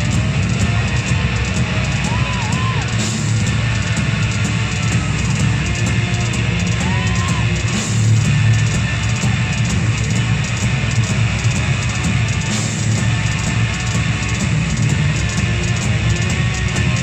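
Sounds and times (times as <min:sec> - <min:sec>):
metal band playing live: 0:00.0 - 0:17.0.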